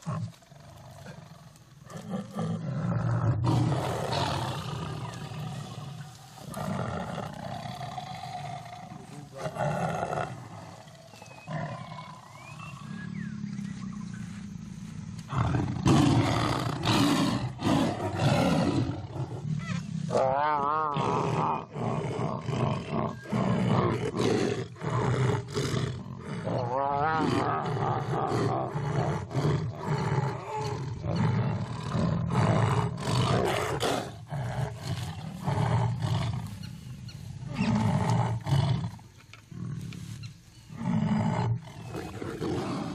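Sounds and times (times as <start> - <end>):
tigers snarling and growling: 0.0 - 42.9.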